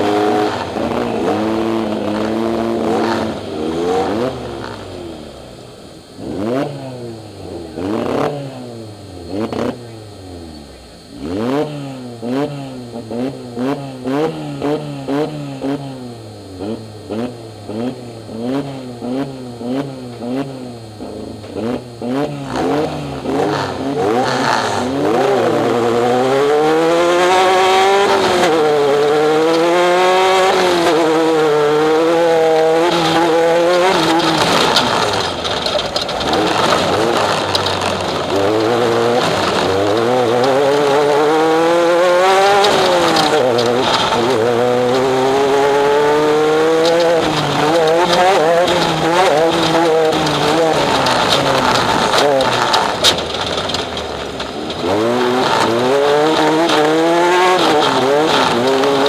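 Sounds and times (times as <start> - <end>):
race engine revving: 0.0 - 59.0.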